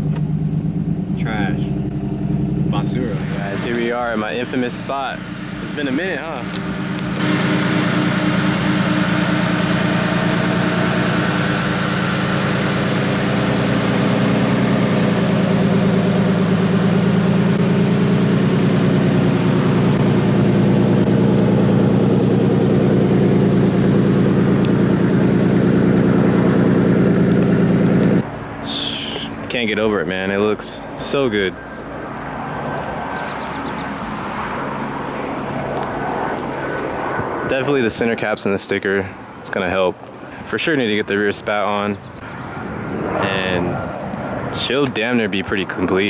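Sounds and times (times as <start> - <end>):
car engine idling: 0.0 - 37.4.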